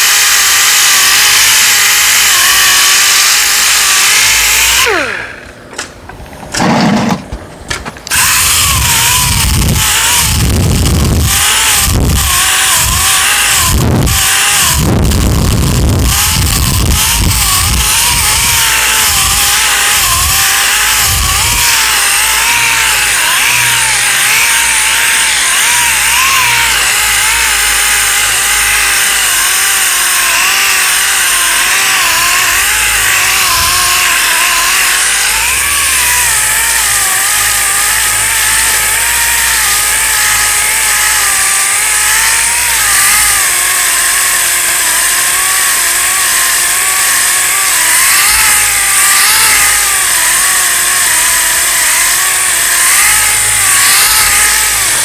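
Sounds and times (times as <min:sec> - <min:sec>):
orbital sander whine: 0:00.0 - 0:55.0.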